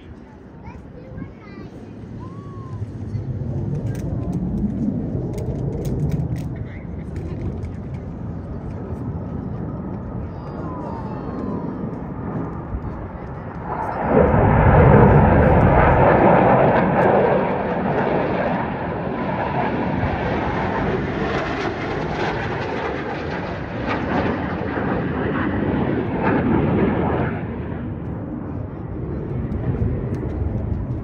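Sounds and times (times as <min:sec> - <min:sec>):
jets flying by: 0:00.0 - 0:31.0.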